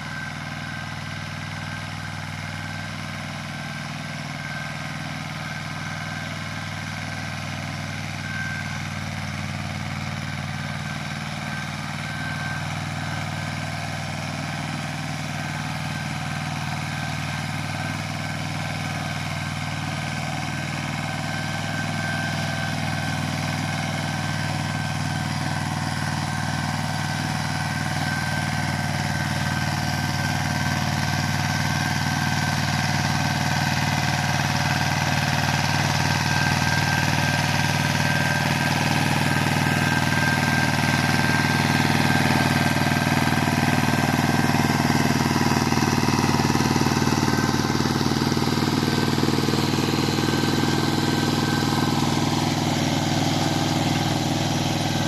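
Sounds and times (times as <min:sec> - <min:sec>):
rotary tiller through soil: 0:00.0 - 0:55.0
tractor engine running: 0:00.0 - 0:55.0.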